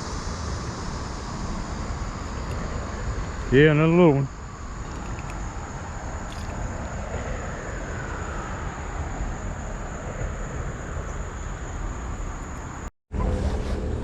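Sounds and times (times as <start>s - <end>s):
high-pitched insect drone: 0.0s - 12.9s
low rumble and hiss: 0.0s - 14.0s.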